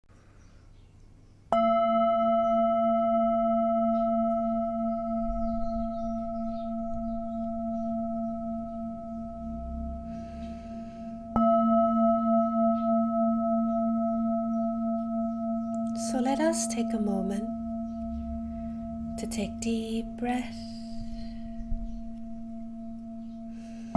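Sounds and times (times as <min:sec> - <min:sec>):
singing bowl ringing: 0:01.5 - 0:23.9.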